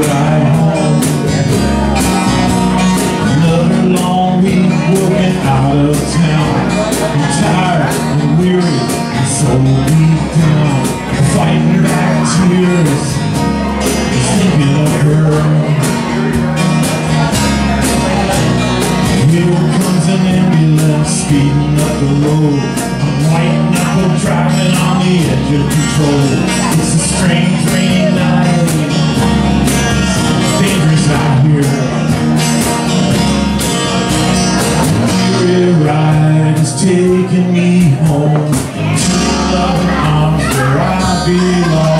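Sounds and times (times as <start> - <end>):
acoustic guitars strumming: 0.0 - 41.9
bass line: 0.0 - 41.9.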